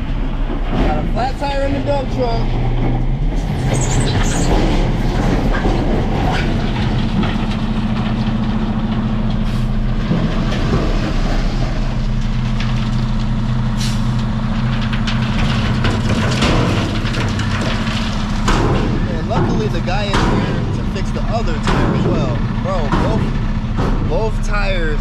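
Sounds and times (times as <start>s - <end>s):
diesel truck engine droning: 0.0s - 25.0s
rattles and clicks: 0.4s - 25.0s.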